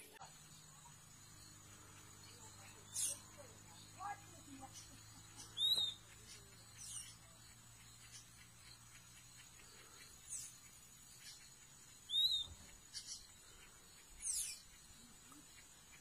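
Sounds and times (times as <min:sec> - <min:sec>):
high-pitched insect drone: 0:00.0 - 0:16.0
birds whistling: 0:00.4 - 0:16.0.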